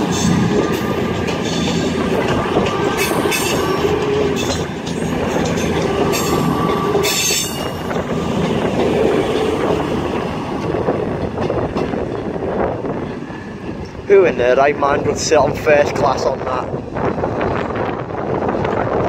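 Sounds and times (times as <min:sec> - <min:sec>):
roar of wheels on rail: 0:00.0 - 0:19.0
train diesel engines running: 0:00.0 - 0:19.0.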